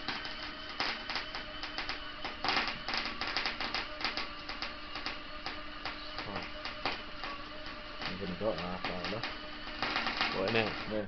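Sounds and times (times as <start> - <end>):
steady hum: 0.0 - 11.0
welding arc crackling: 0.0 - 11.0.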